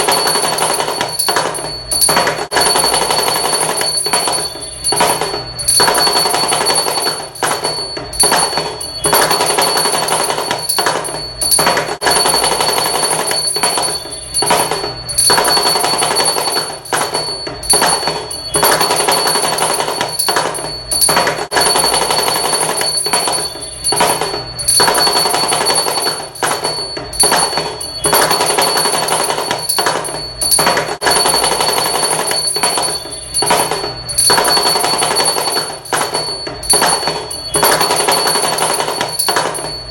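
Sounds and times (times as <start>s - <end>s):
high ringing tone: 0.0s - 39.9s.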